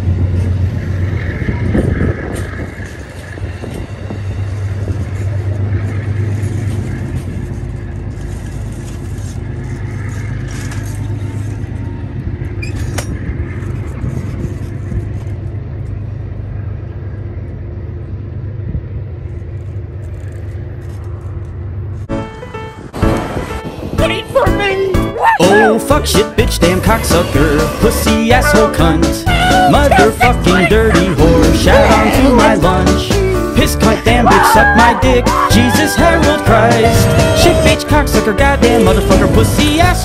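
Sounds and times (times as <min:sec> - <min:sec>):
passenger train rolling past: 0:00.0 - 0:25.1, 0:25.9 - 0:40.0.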